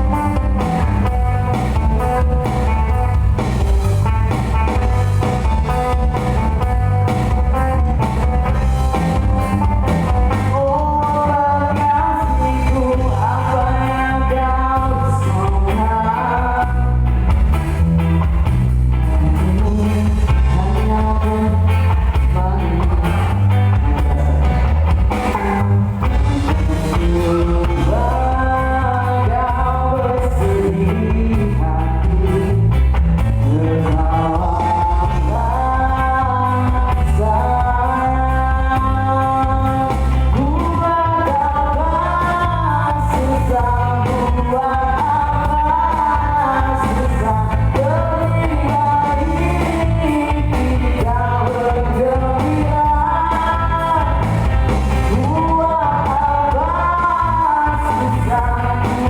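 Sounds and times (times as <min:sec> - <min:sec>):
band playing a song: 0:00.0 - 0:59.0
heavy bass line: 0:00.0 - 0:59.0
lead voice singing: 0:00.0 - 0:59.0.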